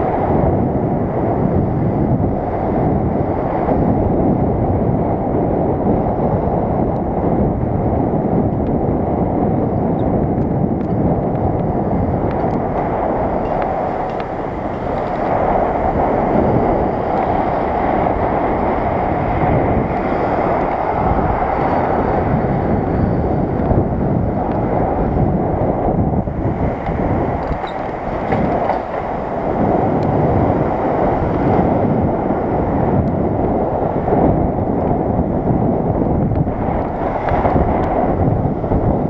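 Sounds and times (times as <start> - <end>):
wind and road noise: 0.0 - 39.0.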